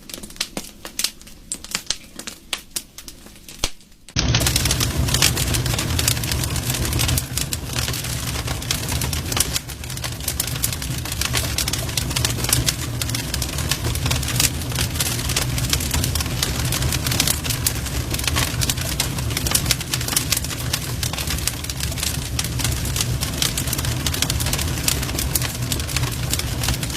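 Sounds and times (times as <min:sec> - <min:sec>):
wood fire crackling: 0:00.0 - 0:26.9
low rumble of flame: 0:04.1 - 0:26.9.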